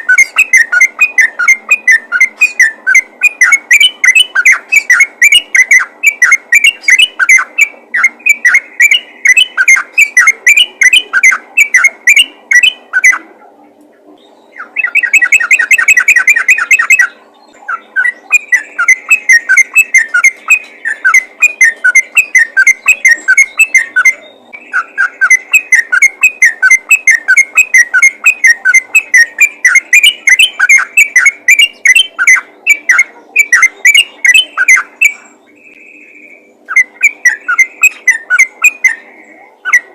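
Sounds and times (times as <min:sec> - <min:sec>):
bird chattering call: 0:00.0 - 0:13.4, 0:14.2 - 0:39.9.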